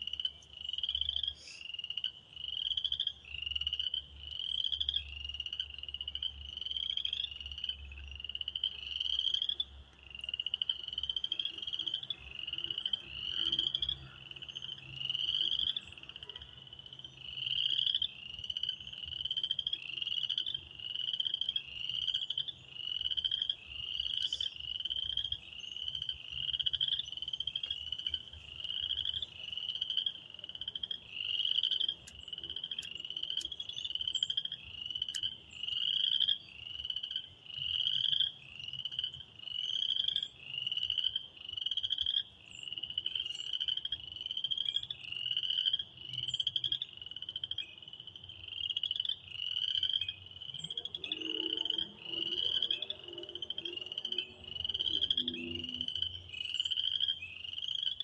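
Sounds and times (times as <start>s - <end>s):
spring peepers calling: 0.0s - 58.0s.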